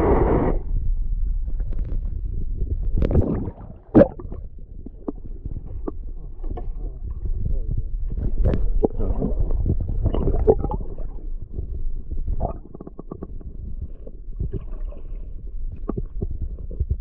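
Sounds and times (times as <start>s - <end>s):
muffled underwater rumble and sloshing: 0.0s - 17.0s.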